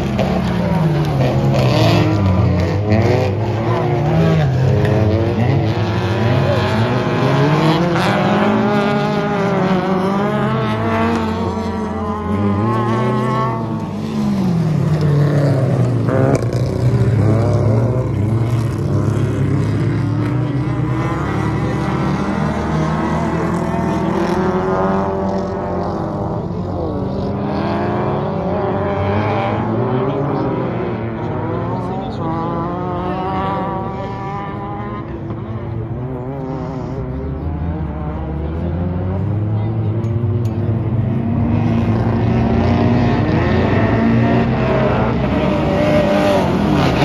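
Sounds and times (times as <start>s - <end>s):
race car engines revving: 0.0s - 47.0s.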